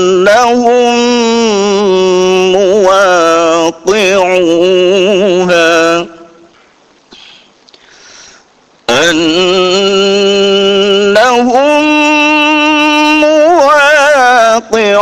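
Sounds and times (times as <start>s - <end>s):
man chanting melodic recitation: 0.0s - 6.5s, 8.8s - 15.0s.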